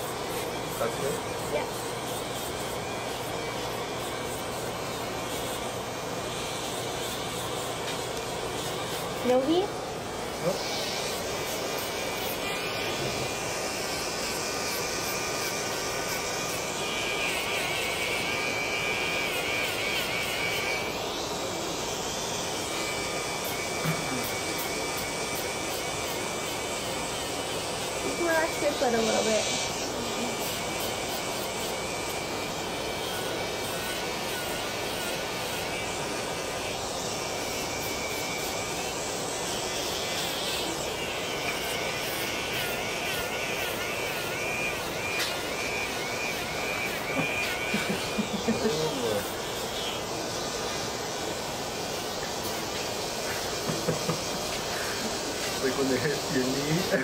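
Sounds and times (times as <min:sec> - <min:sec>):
electric nail file whine: 0:00.0 - 0:57.0
grinding hiss on skin: 0:00.0 - 0:57.0.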